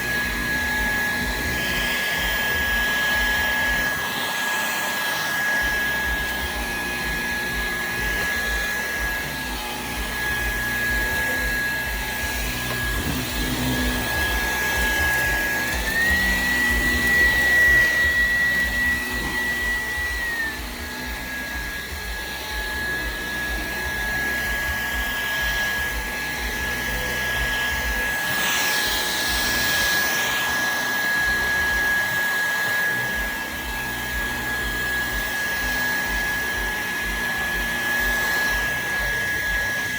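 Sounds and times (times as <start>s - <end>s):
suction rushing over carpet: 0.0s - 39.9s
vacuum cleaner motor whine: 0.0s - 39.9s.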